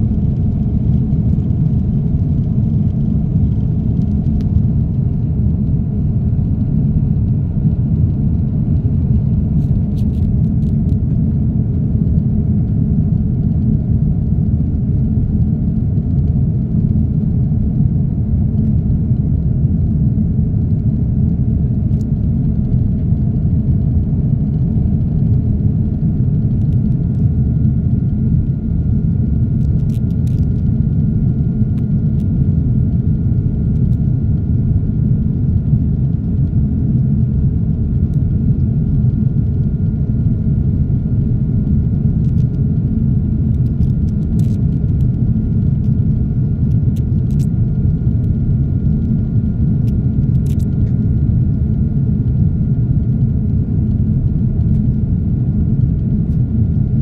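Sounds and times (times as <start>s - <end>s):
faint steady whine: 0.0s - 57.0s
jet engine cabin rumble: 0.0s - 57.0s.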